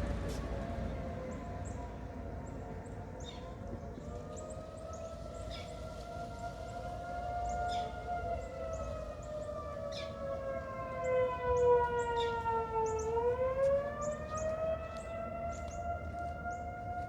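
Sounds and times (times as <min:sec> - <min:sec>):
tornado warning sirens wailing: 0:00.0 - 0:17.0.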